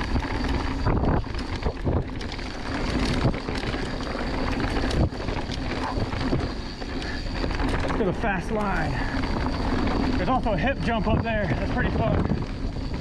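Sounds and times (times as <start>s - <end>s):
bike tyres rumbling on dirt trail: 0.0s - 13.0s
wind rushing over microphone: 0.0s - 13.0s.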